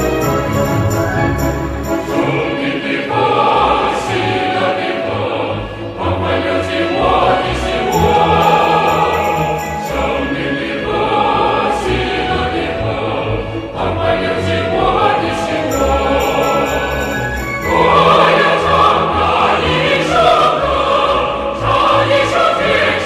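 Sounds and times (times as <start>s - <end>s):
choir singing held notes: 0.0s - 23.0s
orchestral accompaniment: 0.0s - 23.0s.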